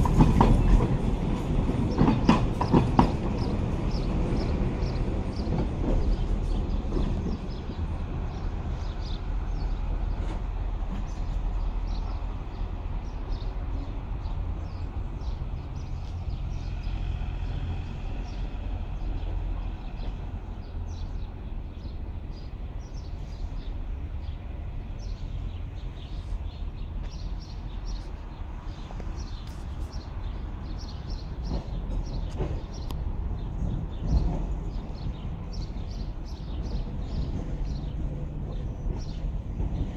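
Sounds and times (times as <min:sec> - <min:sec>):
city traffic: 0:00.0 - 0:39.9
trams rumbling on track: 0:00.0 - 0:39.9
birds chirping: 0:00.1 - 0:39.9.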